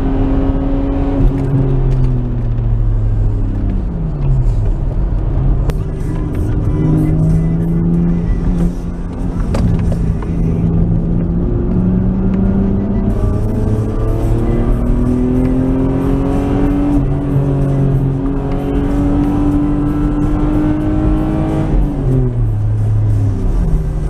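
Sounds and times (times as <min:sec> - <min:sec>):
car engine from inside cabin: 0:00.0 - 0:24.0.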